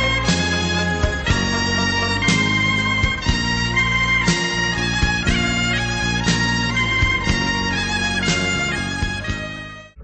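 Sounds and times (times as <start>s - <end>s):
music with drone and beat: 0.0s - 10.0s.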